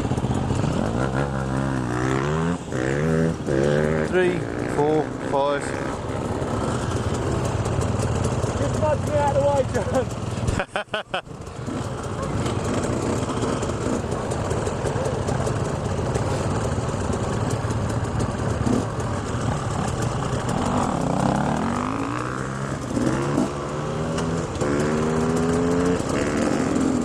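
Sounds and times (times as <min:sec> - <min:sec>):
engine revving: 0:00.0 - 0:10.1, 0:11.6 - 0:14.8, 0:18.5 - 0:27.0
dirt bike engines idling: 0:00.0 - 0:27.0.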